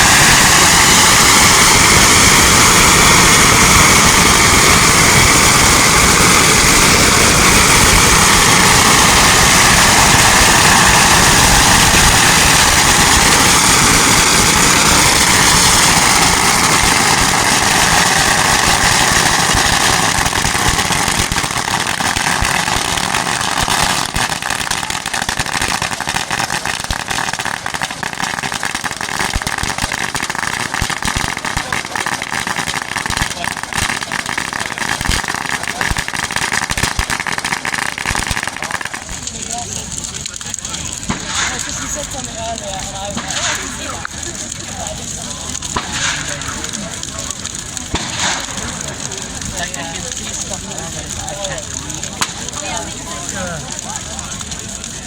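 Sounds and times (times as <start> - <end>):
bonfire roaring and crackling: 0.0 - 55.0.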